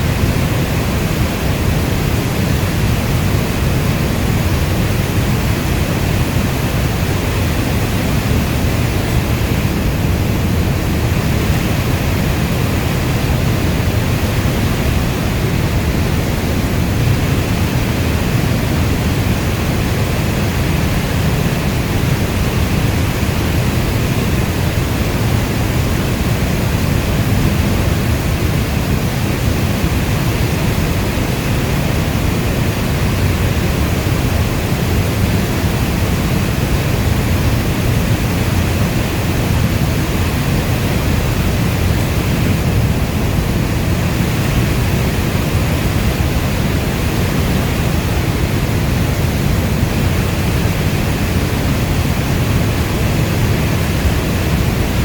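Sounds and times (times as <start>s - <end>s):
heavy rainstorm: 0.0s - 55.0s.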